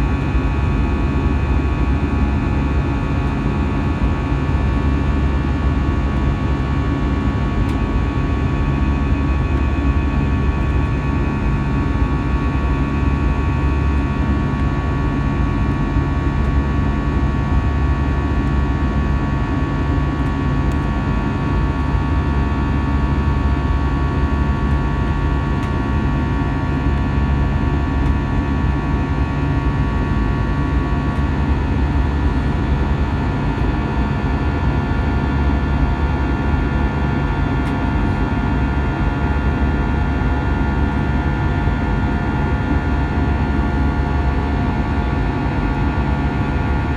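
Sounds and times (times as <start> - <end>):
jet engine and airflow drone: 0.0 - 46.9.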